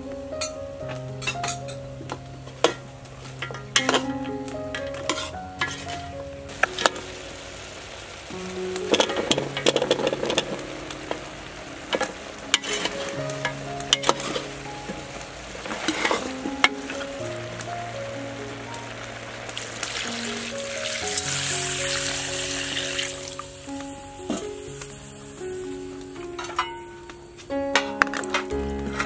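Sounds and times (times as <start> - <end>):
soft background music: 0.0 - 29.0
food sizzling in a pot: 1.2 - 29.0.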